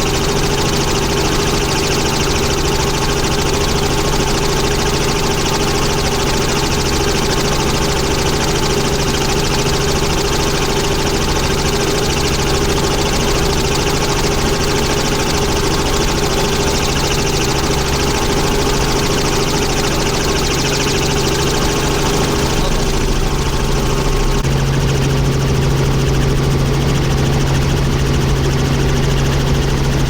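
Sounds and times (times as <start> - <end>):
helicopter engine and rotor drone: 0.0 - 30.0.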